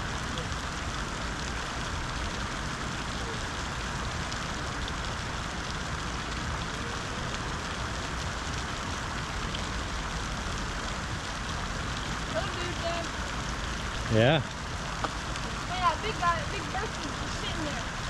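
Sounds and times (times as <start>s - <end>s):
falling water rushing: 0.0s - 18.0s.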